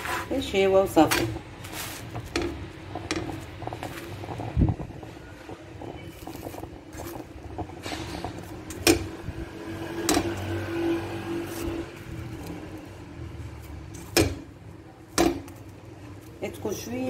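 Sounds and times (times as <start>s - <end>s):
spatula turning flatbread in pan: 0.0s - 17.0s.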